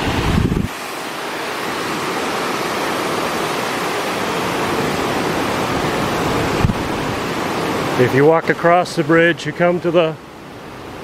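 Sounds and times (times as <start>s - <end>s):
fast-flowing river water: 0.0s - 11.0s.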